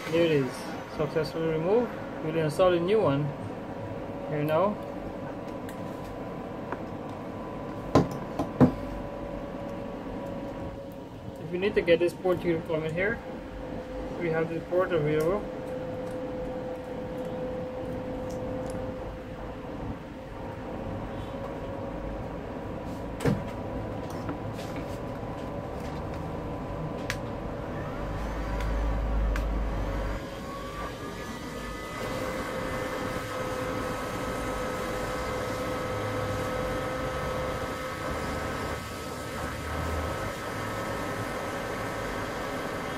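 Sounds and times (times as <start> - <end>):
hot air station blowing: 0.0 - 42.9.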